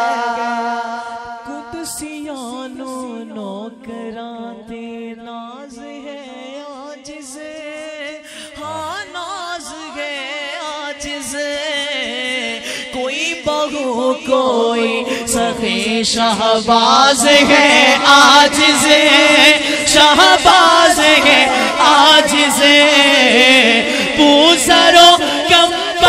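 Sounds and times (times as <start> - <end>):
man singing a cappella: 0.0 - 26.0.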